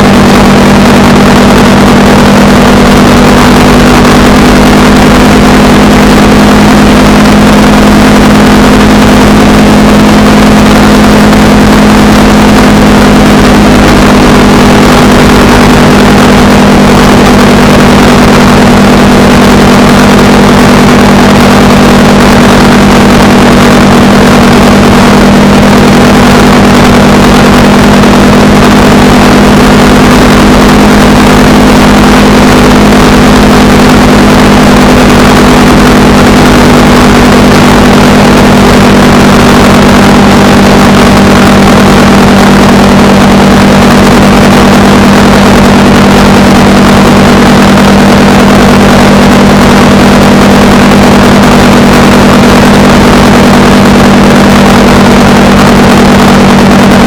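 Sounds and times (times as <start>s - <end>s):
constant rushing noise: 0.0s - 57.0s
motorcycle engine cruising: 0.0s - 57.0s.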